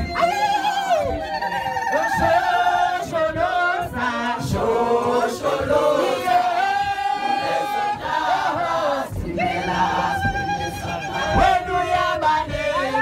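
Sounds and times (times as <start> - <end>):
crowd singing in chorus: 0.0 - 13.0.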